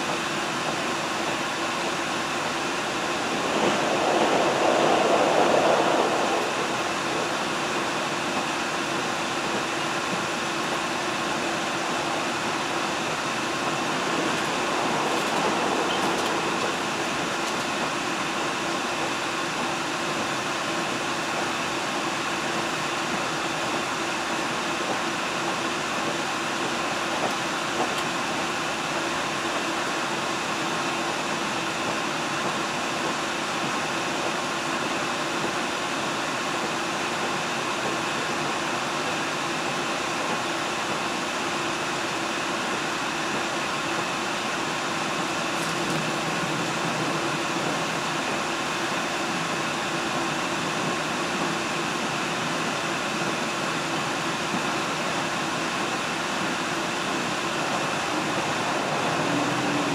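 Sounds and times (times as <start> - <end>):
train running rumble and hiss: 0.0 - 59.9.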